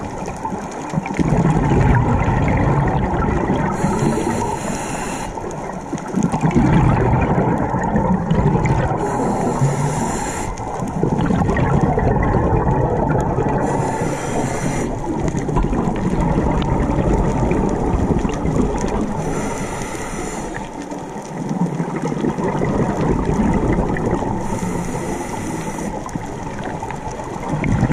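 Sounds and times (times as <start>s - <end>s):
exhaled bubbles hissing: 0.0s - 27.9s
low rush of water: 0.0s - 27.9s.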